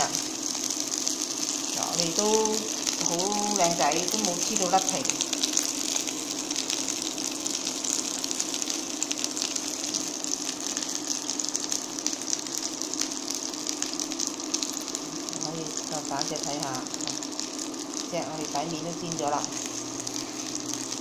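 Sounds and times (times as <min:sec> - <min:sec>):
chicken frying in hot oil: 0:00.0 - 0:21.0.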